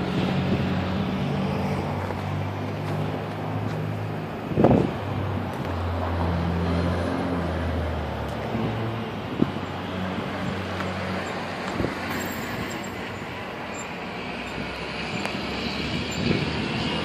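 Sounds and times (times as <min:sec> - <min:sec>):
passing vehicles humming: 0:00.0 - 0:17.0.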